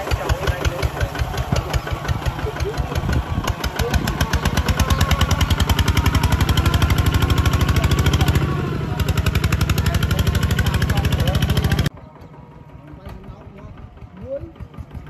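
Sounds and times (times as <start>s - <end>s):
diesel tractor engine chugging: 0.0s - 15.0s.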